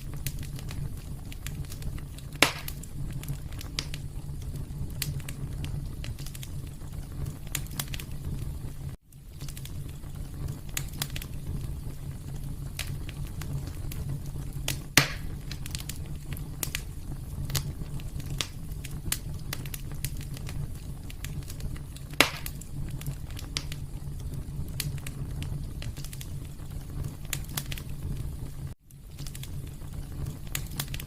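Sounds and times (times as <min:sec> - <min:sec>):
loud fire pops: 0:00.0 - 0:31.0
wood fire crackling: 0:00.0 - 0:31.0.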